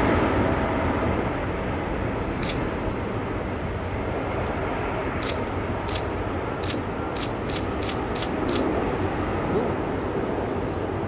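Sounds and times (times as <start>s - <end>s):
distant jet engine roar: 0.0s - 11.0s.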